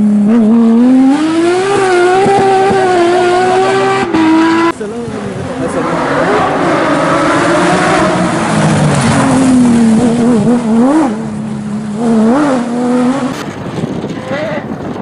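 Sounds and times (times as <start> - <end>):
racing car engine high revs: 0.0 - 14.7.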